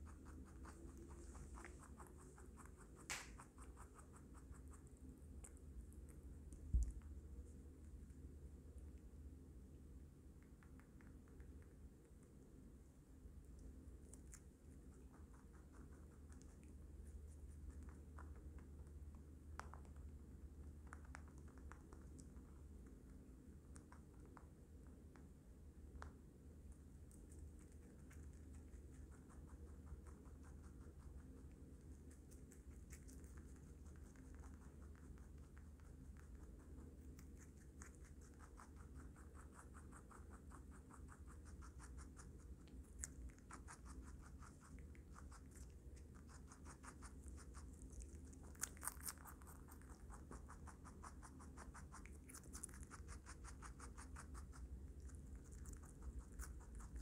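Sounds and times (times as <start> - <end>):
rabbit chewing vegetables: 0.0 - 57.0.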